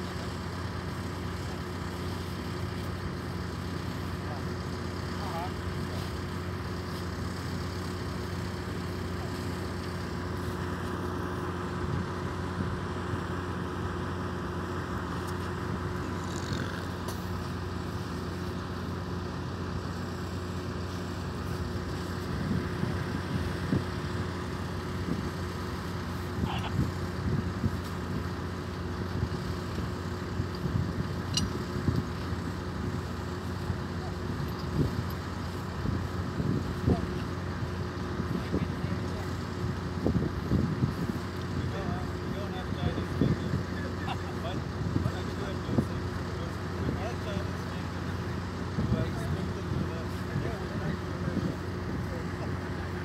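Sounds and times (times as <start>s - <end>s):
heavy equipment engine droning: 0.0s - 53.0s.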